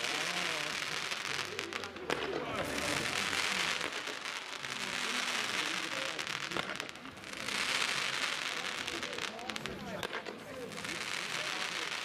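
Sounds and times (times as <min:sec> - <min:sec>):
fireworks crackling: 0:00.0 - 0:12.0
sharp firework cracks: 0:00.0 - 0:12.0.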